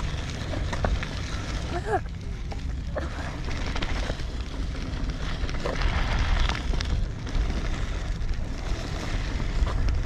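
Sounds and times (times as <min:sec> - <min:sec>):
bike tyres on dirt track: 0:00.0 - 0:10.0.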